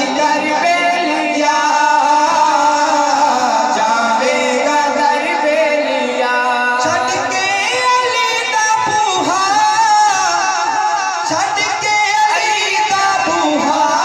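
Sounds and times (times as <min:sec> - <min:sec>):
men singing devotional song: 0:00.0 - 0:14.0.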